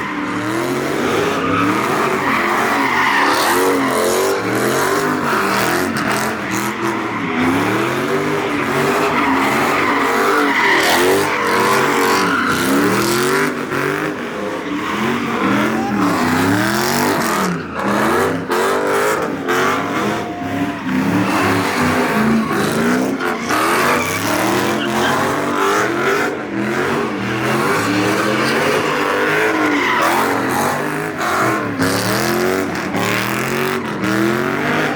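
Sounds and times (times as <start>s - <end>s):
car engine revving: 0.0s - 34.9s
tyres screeching: 0.0s - 34.9s.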